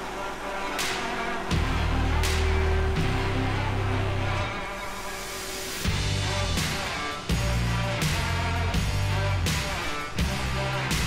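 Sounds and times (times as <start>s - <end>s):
background music with bass: 0.0s - 11.0s.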